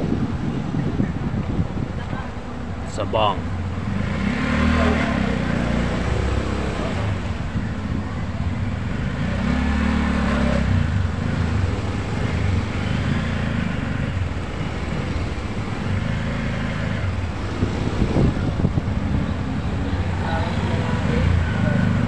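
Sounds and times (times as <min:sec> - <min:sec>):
passing vehicles: 0:00.0 - 0:22.0
road noise: 0:00.0 - 0:22.0
scooter engine rumble: 0:00.0 - 0:22.0.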